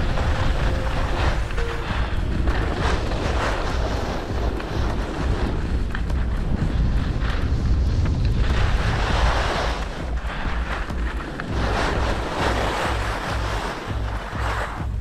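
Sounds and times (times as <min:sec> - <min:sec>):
skis scraping on snow: 0:00.0 - 0:15.0
wind buffeting microphone: 0:00.0 - 0:15.0.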